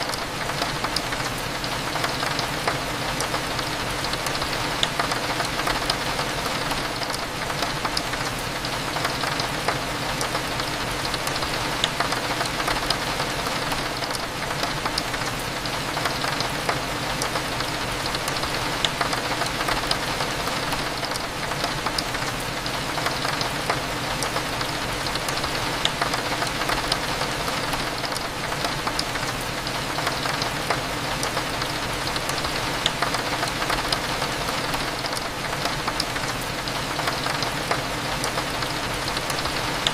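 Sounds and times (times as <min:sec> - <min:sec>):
rain drops hitting a window: 0:00.0 - 0:39.9.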